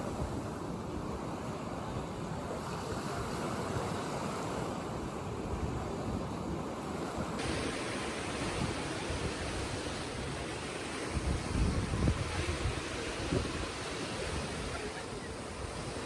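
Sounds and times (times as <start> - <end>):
sea surf washing: 0.0 - 16.0
wind buffeting microphone: 0.0 - 16.0.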